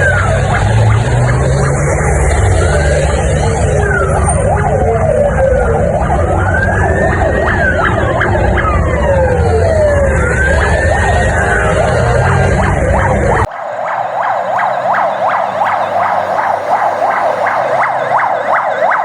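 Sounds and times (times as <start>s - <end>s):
low rumble of vehicle engines: 0.0s - 19.0s
siren wailing: 0.0s - 19.0s
siren yelping: 0.0s - 19.0s.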